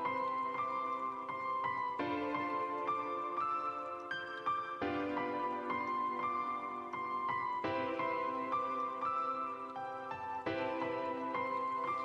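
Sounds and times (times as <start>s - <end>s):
soft electronic music: 0.0s - 12.0s.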